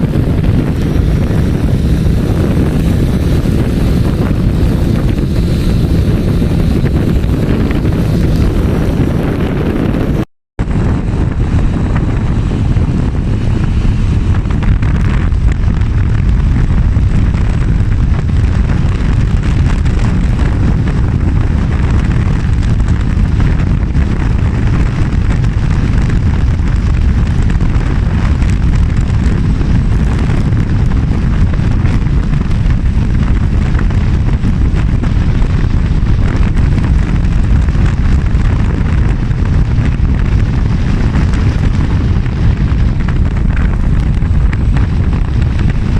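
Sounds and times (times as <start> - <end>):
motorbike engine: 0.0 - 45.9
road noise: 0.0 - 45.9
wind buffeting microphone: 0.0 - 45.9.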